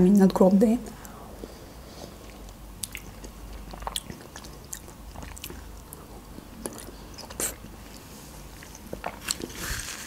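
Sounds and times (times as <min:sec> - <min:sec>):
person chewing wet fruit: 0:01.0 - 0:10.0.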